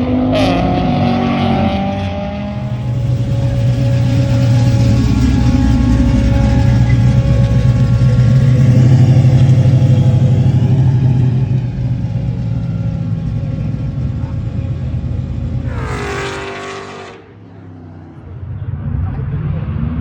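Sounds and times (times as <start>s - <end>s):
car passing quickly: 0.0s - 19.0s
car engine rumbling: 0.0s - 20.0s.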